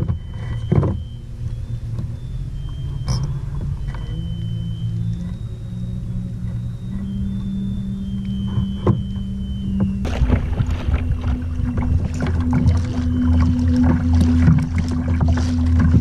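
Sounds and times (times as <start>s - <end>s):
electric boat motor humming: 0.0s - 16.0s
water splashing against hull: 0.0s - 16.0s.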